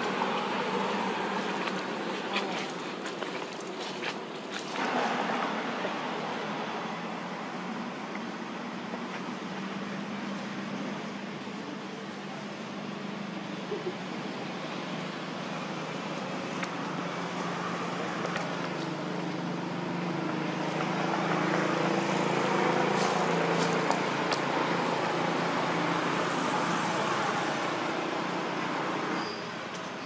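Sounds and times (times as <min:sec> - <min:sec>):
vehicle passing: 0:00.0 - 0:11.2, 0:14.3 - 0:29.2.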